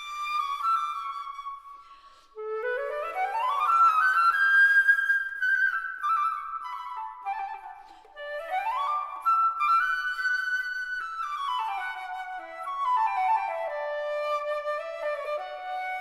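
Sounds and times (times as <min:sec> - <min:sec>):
flute music: 0:00.0 - 0:16.0.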